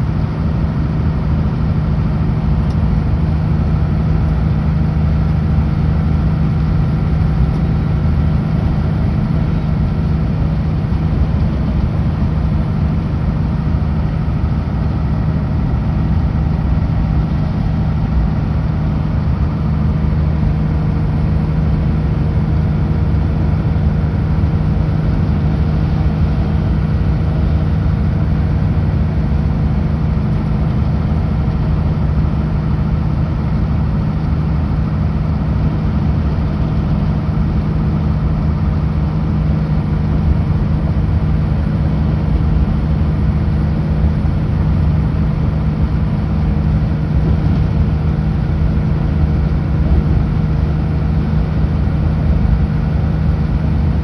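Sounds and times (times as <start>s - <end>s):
road rumble: 0.0s - 54.0s
truck diesel engine droning: 0.0s - 54.0s.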